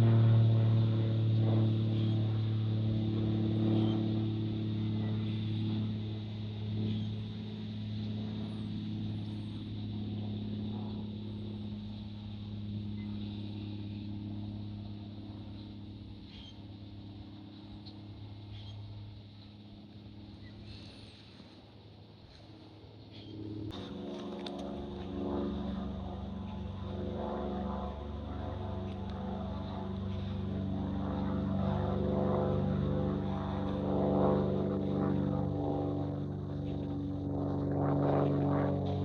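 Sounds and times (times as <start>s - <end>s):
aircraft engine drone: 0.0s - 39.0s.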